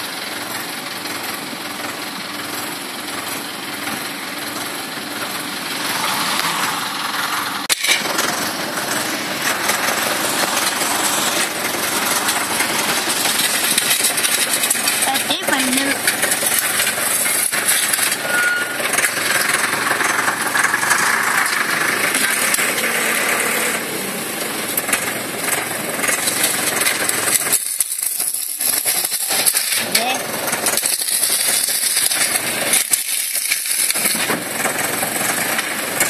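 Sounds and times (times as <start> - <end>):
grapple machine engine and hydraulics: 0.0 - 36.0
rattling: 2.6 - 36.0.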